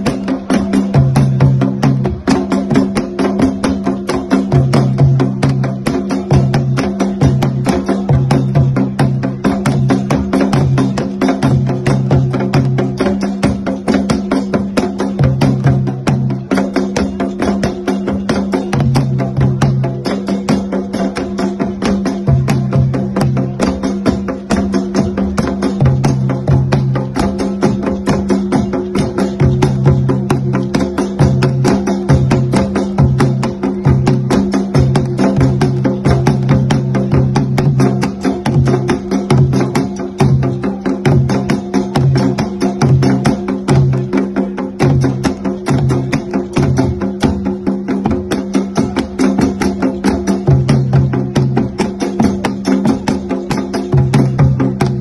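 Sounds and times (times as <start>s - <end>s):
agogo bells: 0.0s - 55.0s
hand drums playing fast rhythm: 0.0s - 55.0s.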